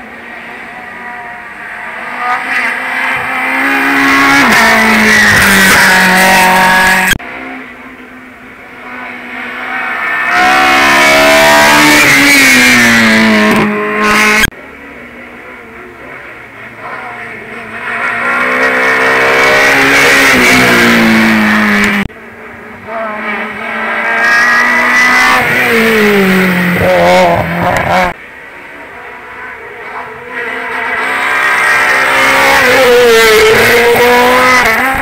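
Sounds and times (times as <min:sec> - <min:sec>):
race car engines revving past: 0:00.0 - 0:35.0.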